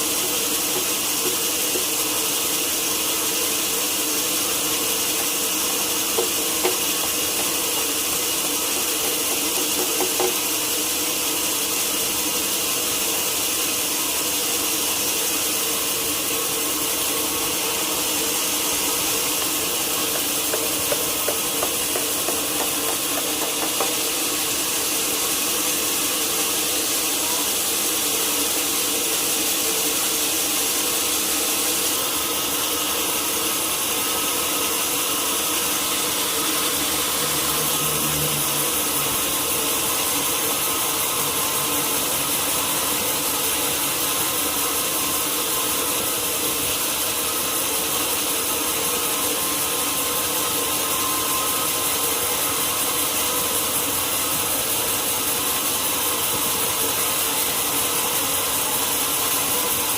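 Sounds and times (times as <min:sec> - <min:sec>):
saw cutting through log: 0:00.0 - 0:29.4, 0:31.2 - 0:59.9.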